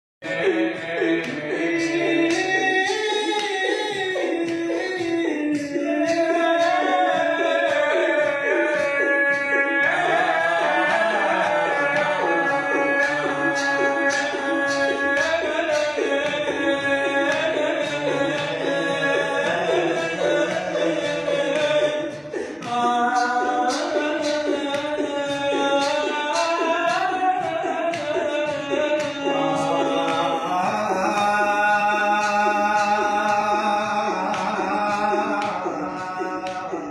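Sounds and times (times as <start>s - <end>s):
male voices holding long tones: 0.2s - 36.9s
men singing a lament: 0.2s - 36.9s
steady beat of strikes: 0.2s - 36.9s.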